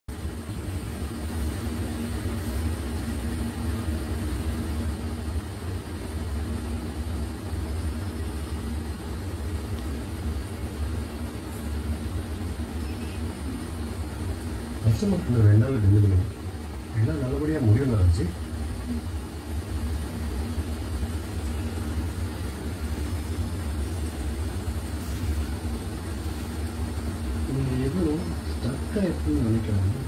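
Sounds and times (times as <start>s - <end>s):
textile machinery drone: 0.1s - 30.0s.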